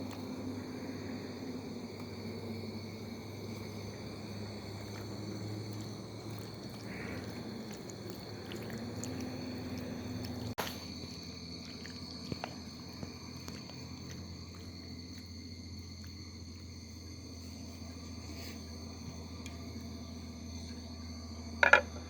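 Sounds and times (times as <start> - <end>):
high insect drone: 0.0 - 22.0
low steady hum: 0.0 - 22.0.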